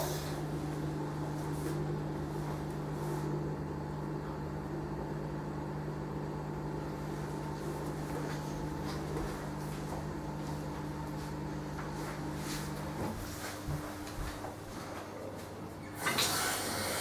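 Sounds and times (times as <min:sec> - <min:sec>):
dishwasher humming: 0:00.0 - 0:17.0.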